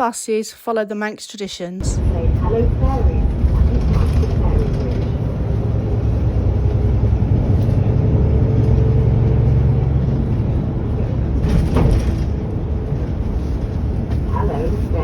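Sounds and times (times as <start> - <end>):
bus engine rumbling: 1.8 - 15.0.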